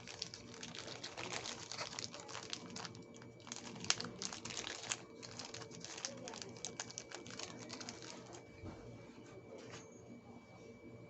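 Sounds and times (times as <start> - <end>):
crinkling and rustling: 0.0 - 9.9.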